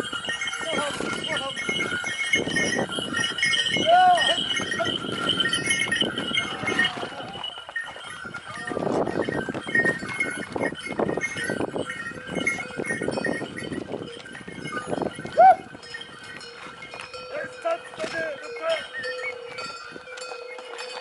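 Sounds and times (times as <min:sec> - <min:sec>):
bells ringing: 0:00.0 - 0:21.0
hooves striking stone: 0:00.0 - 0:21.0.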